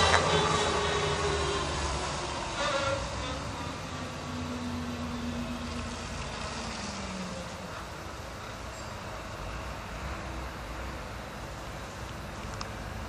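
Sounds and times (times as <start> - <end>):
diesel vehicle driving away: 0.0 - 13.0.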